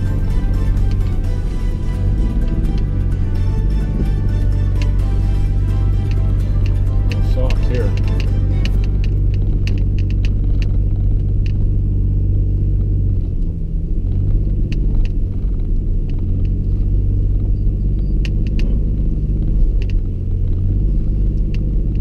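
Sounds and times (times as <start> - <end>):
engine rumble inside car cabin: 0.0 - 22.0.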